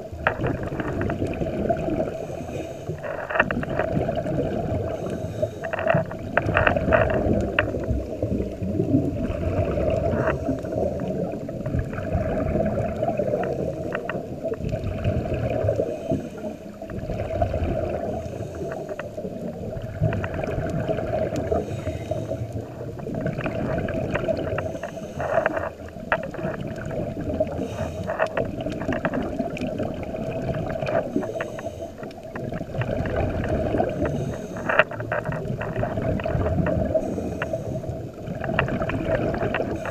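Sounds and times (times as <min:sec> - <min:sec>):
muffled underwater breathing rush: 0:00.0 - 0:29.3, 0:30.2 - 0:39.9
gurgling exhaled bubbles: 0:00.0 - 0:39.9.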